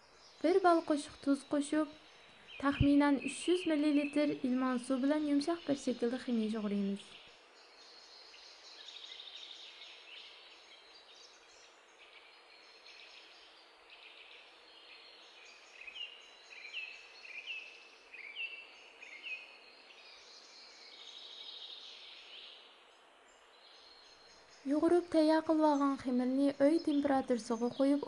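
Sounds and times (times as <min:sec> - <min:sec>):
faint birdsong twittering: 0:00.0 - 0:28.0.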